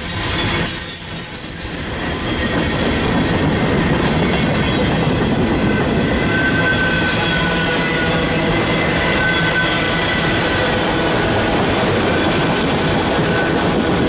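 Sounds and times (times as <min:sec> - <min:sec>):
freight train rumbling and rattling: 0:00.0 - 0:14.0
train wheel squeal: 0:00.0 - 0:14.0.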